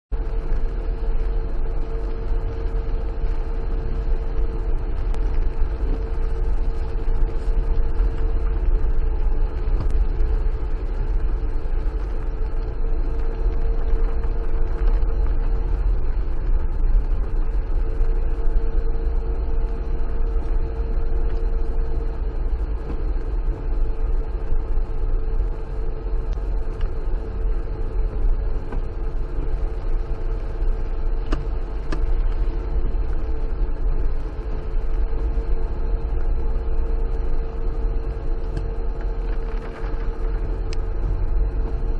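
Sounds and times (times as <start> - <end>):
car engine and tyres rumbling: 0.1 - 41.9
steady whine: 0.1 - 41.9.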